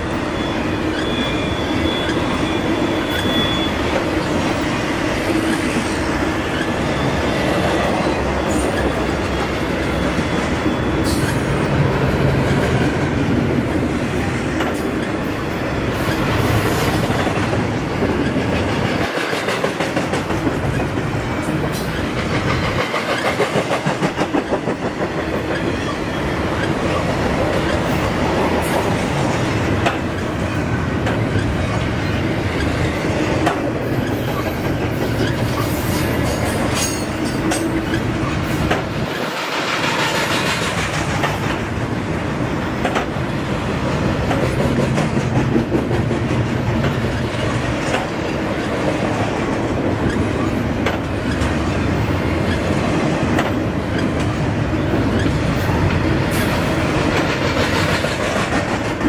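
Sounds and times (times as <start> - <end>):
freight train wheels rumbling on rail: 0.0 - 59.0
wheels clicking over rail joints: 3.0 - 59.0.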